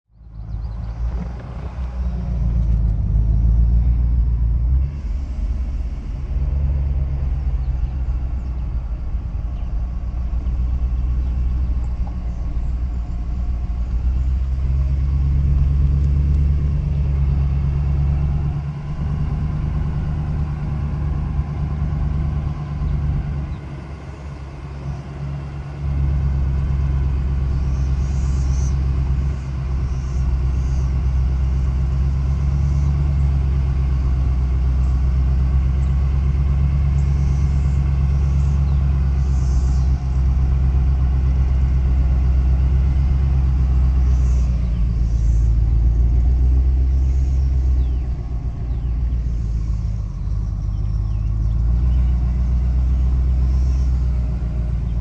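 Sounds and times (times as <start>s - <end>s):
truck engine rumbling: 0.1s - 55.0s.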